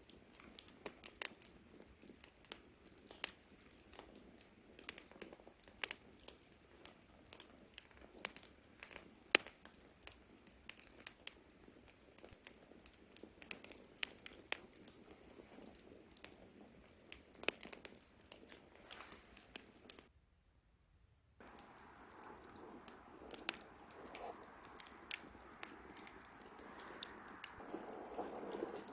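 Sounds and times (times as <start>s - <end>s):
campfire crackling and popping: 0.0s - 20.1s, 21.4s - 28.9s
soft steady hiss: 0.0s - 28.9s.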